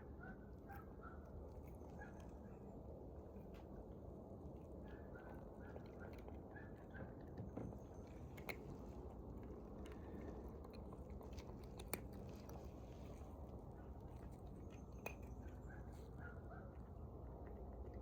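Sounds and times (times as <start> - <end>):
cat chewing food: 0.9 - 18.0.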